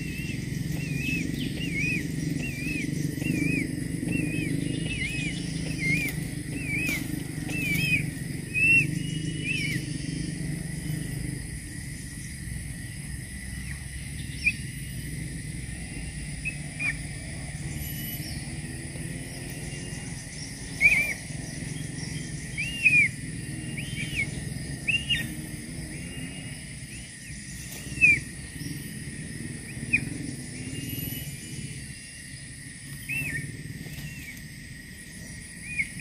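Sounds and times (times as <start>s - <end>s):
bird chirping: 0.0s - 36.0s
steady low hum: 0.0s - 36.0s.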